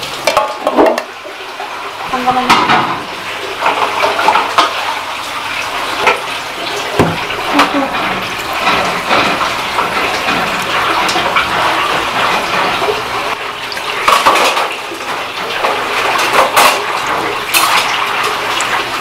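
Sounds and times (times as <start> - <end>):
running water: 0.0 - 19.0
metal bowls and utensils clattering: 0.2 - 1.1, 2.2 - 5.0, 6.0 - 13.3, 13.9 - 18.8.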